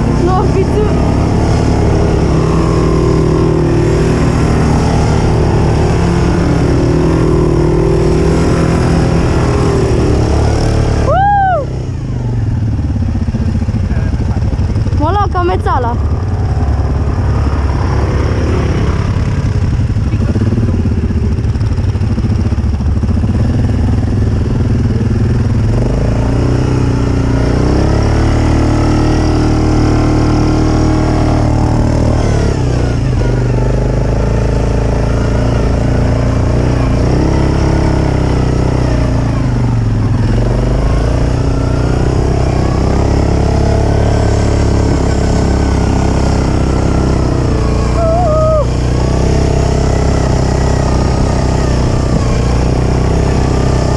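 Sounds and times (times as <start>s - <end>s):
quad bike engine revving: 0.0s - 53.9s.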